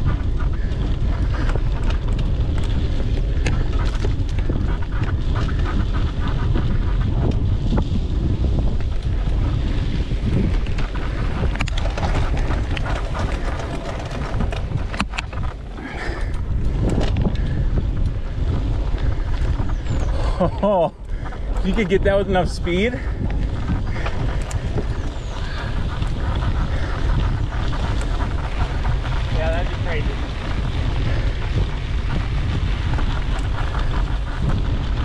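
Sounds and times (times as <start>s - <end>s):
bike clicks and knocks on trail: 0.0s - 35.0s
wind buffeting microphone: 0.0s - 35.0s.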